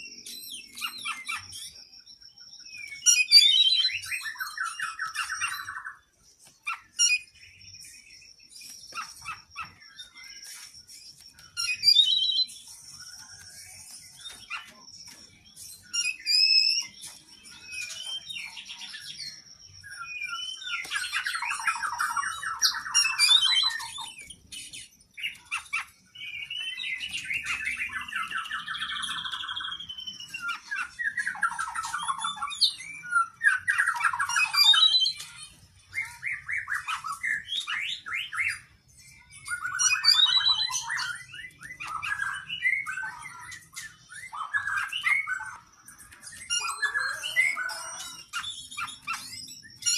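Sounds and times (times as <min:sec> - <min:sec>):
songbird singing varied song: 0:00.0 - 0:49.9.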